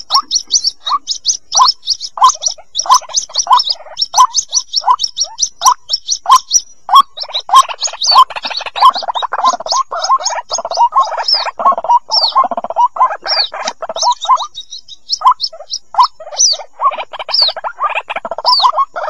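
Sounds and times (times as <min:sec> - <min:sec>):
bird chicks peeping: 0:00.0 - 0:19.0.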